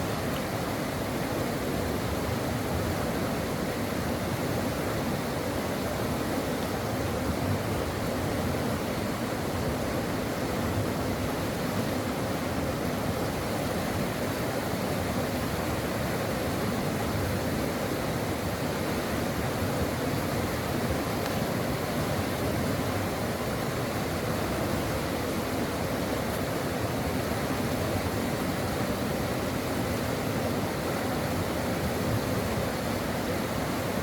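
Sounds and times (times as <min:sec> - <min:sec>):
stream water running over rocks: 0:00.0 - 0:34.0.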